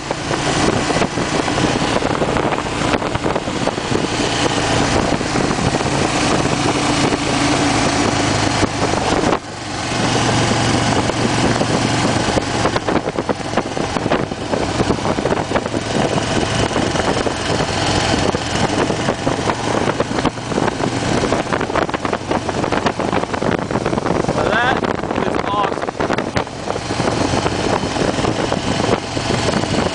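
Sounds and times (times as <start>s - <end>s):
motorcycle engine running: 0.0s - 29.9s
wind rushing over microphone: 0.0s - 29.9s.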